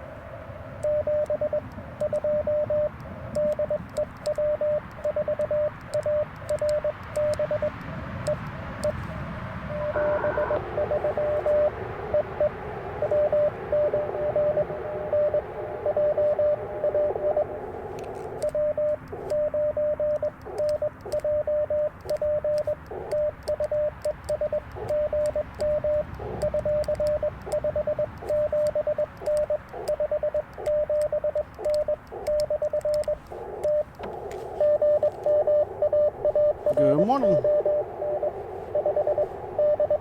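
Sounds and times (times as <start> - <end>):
radio static: 0.6 - 40.0
morse code tones: 0.8 - 40.0.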